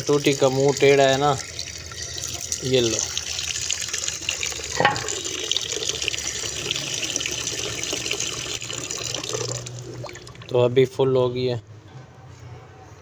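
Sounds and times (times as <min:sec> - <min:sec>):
tap water filling container: 0:00.0 - 0:10.6.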